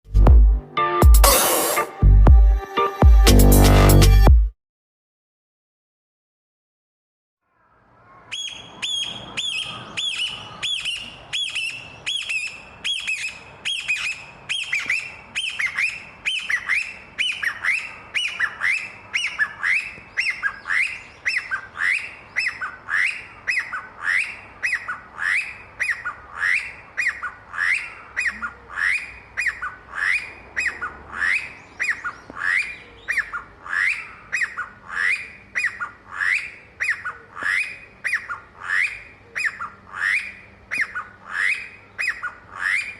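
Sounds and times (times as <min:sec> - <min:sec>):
bird calling sharp repeated notes: 0:07.5 - 0:42.9.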